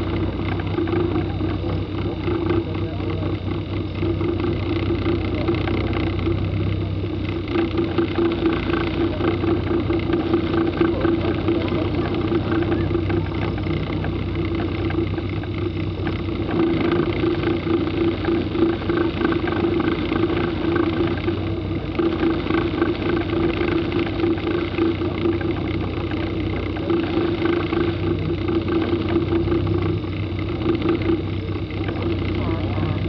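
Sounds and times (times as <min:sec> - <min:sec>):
car engine running at low revs: 0:00.0 - 0:33.0.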